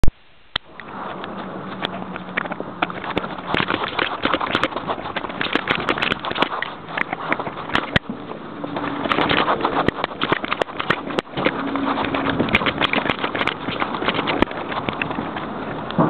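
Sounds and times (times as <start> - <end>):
camera rubbing and clicking: 0.6 - 16.0.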